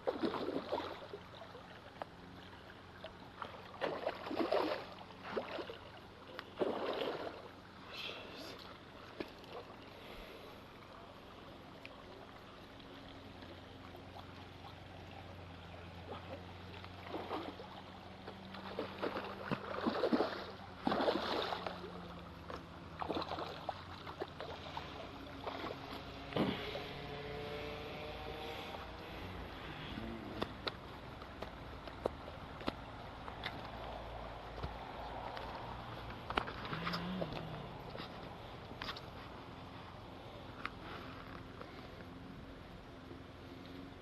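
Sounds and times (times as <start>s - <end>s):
low steady hum: 0.0s - 44.0s
water splashing and sloshing: 0.0s - 44.0s.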